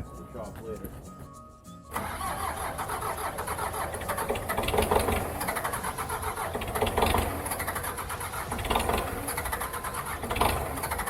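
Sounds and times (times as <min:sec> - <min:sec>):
work machine engine running: 0:01.9 - 0:11.0.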